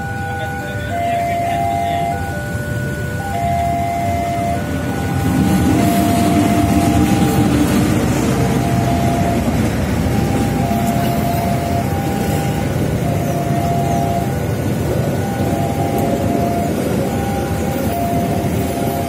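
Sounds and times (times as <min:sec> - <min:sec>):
two-note crossing warning tone: 0:00.0 - 0:07.7, 0:08.5 - 0:14.5, 0:15.2 - 0:19.0
train rumbling on rails: 0:00.0 - 0:19.0.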